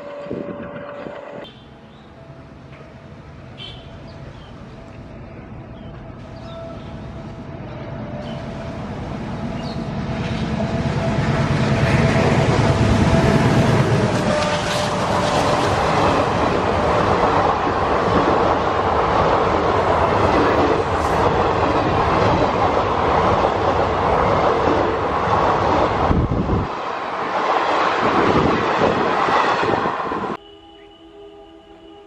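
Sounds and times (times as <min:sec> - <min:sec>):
train passing at speed: 0:00.0 - 0:32.0.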